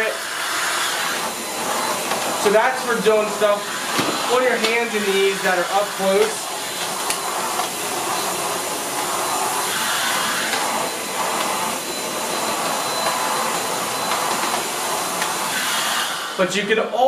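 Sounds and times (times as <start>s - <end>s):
cordless vacuum running: 0.0s - 16.5s.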